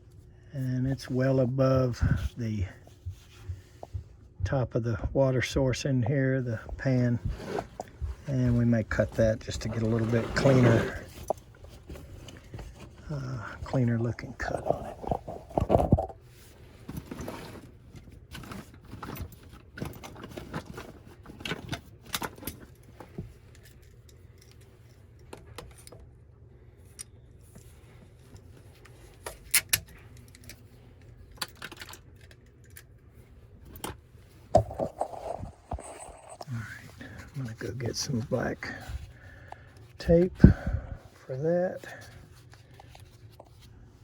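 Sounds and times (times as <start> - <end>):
steady low hum: 0.0 - 44.0
tools and plastic pipe clattering: 6.0 - 26.1, 26.9 - 33.0, 33.6 - 43.7.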